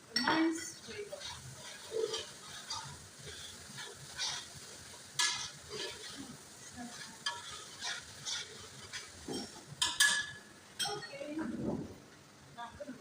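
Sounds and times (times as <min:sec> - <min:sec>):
stew sizzling: 0:00.0 - 0:13.0
spoon scraping a pot: 0:00.2 - 0:11.0.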